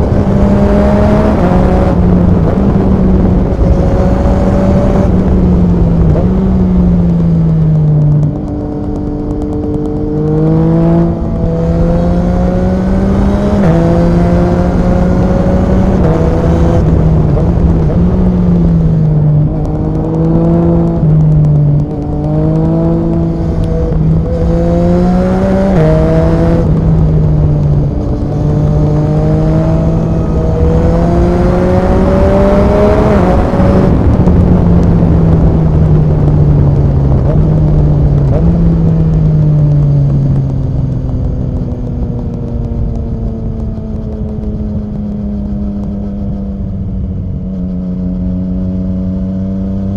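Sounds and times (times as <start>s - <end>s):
loud motorcycle engine revving: 0.0s - 7.5s, 8.2s - 40.8s.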